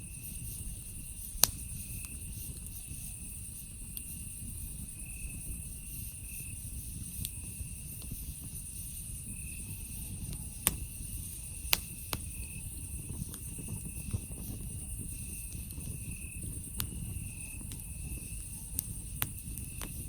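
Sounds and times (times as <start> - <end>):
campfire burning: 0.0 - 20.0
fire crackling pops: 0.0 - 20.0
insect chirping in bursts: 0.0 - 20.0
night insects chorus: 0.0 - 20.0.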